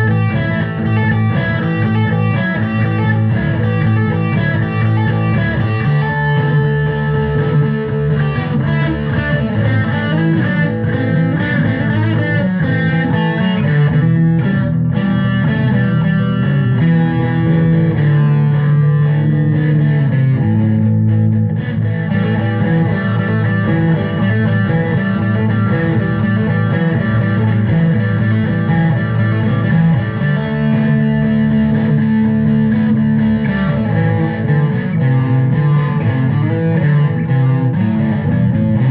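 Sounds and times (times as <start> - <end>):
bass guitar: 0.0 - 38.9
electric guitar: 0.0 - 38.9
rock music: 0.0 - 38.9.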